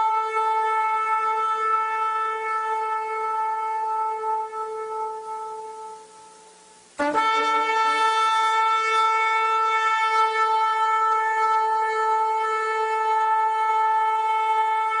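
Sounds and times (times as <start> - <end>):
shofar blast: 0.0 - 15.0.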